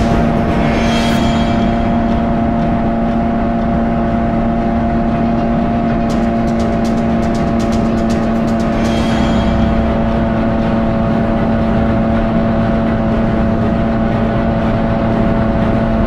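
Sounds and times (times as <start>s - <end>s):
jet ski engine droning: 0.0s - 16.0s.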